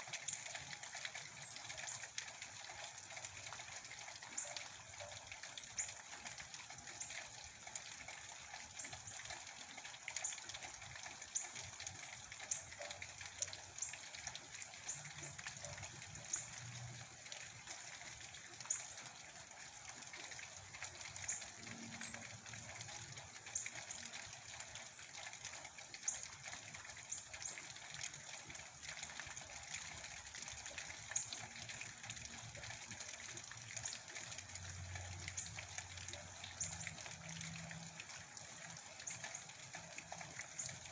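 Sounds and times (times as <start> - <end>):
water drips ticking: 0.0 - 40.9.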